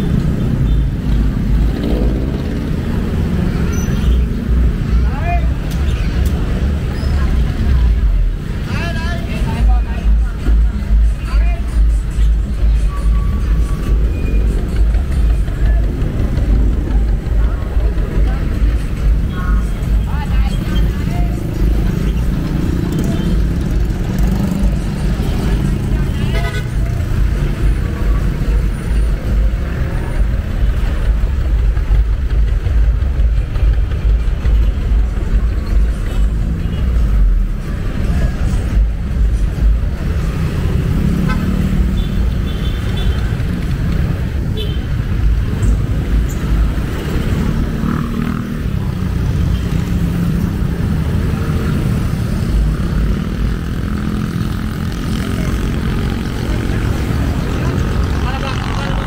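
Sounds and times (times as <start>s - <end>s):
diesel engine rumbling: 0.0s - 59.0s
street traffic noise: 0.0s - 59.0s.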